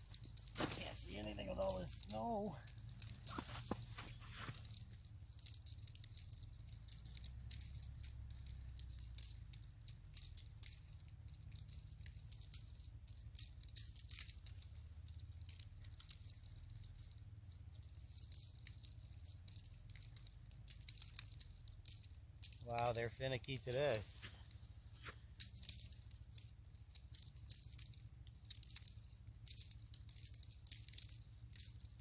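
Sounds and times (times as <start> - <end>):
low steady rumble: 0.0 - 32.0.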